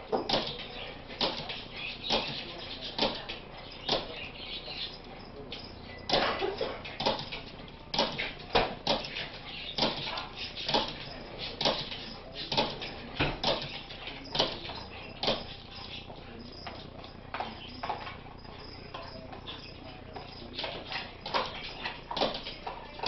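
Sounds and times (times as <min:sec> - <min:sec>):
dog paws thumping on tile floor: 0:00.0 - 0:23.0.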